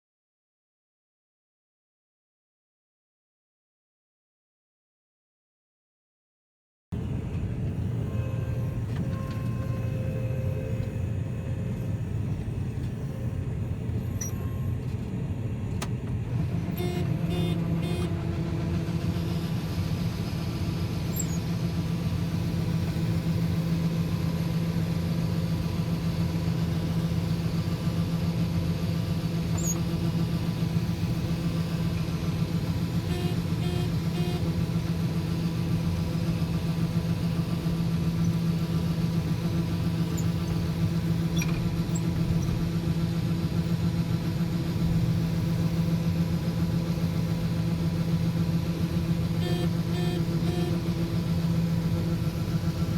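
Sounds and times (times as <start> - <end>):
farm machine engine running: 7.0 - 52.9.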